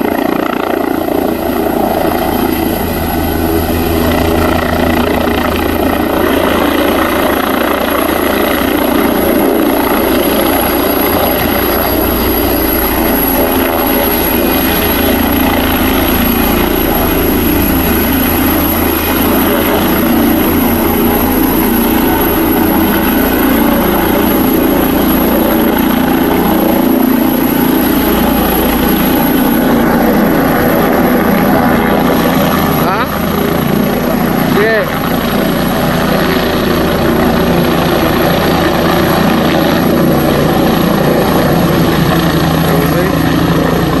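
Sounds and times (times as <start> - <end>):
helicopter turbine and rotor: 0.0 - 44.0.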